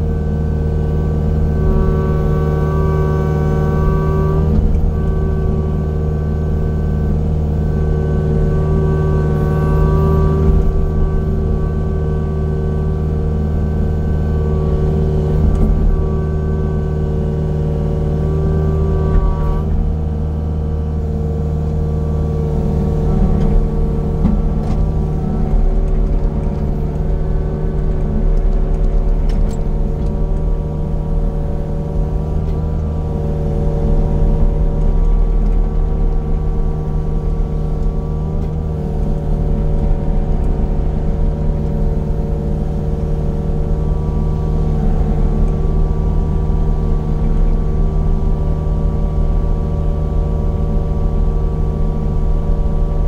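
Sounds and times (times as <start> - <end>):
heavy machine engine under load: 0.0 - 53.0.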